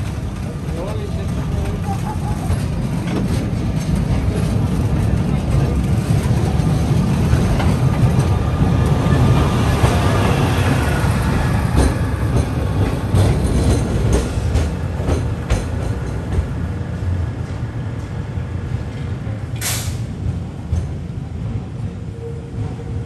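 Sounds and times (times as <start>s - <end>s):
tram rolling past: 0.0s - 23.0s.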